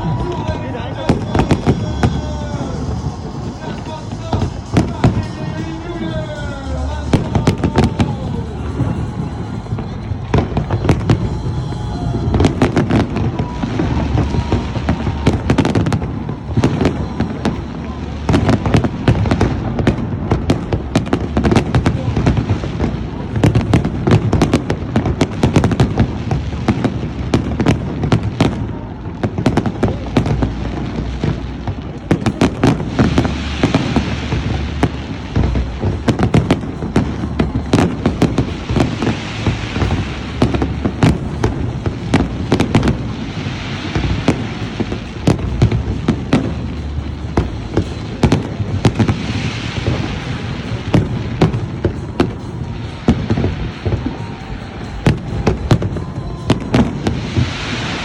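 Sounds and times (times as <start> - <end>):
fireworks bangs and crackles: 0.0 - 58.0
low rumble of booms: 0.0 - 58.0.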